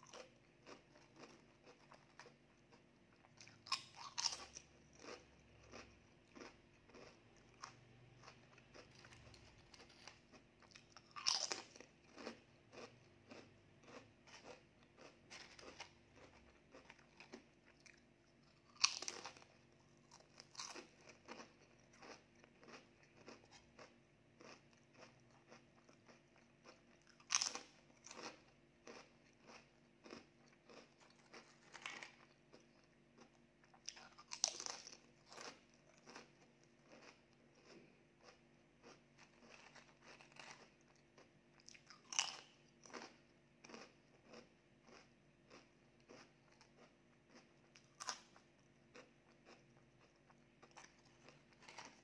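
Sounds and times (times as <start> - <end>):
chewing crunches: 0.0 - 52.0
crisp chip bites: 3.2 - 17.8, 18.5 - 52.0.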